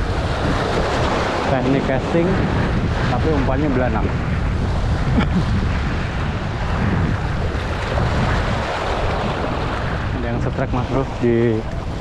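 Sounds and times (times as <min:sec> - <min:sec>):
waves splashing over rocks: 0:00.0 - 0:12.0
wind buffeting microphone: 0:00.0 - 0:12.0.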